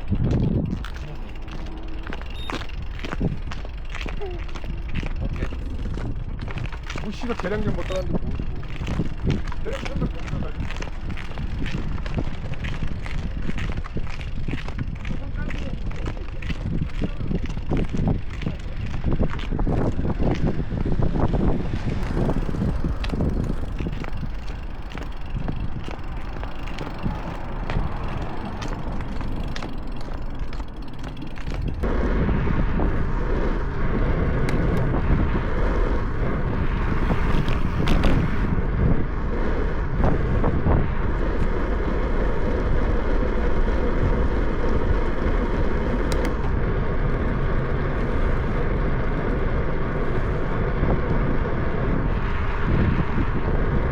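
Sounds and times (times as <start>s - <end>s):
bicycle tyre noise on path: 0.0s - 53.9s
wind rushing over microphone: 0.0s - 53.9s.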